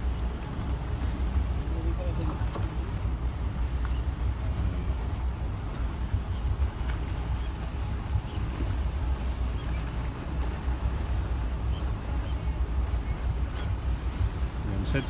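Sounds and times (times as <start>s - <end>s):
boat engine rumbling: 0.0s - 15.0s
water noise: 0.0s - 15.0s
wind: 0.0s - 15.0s.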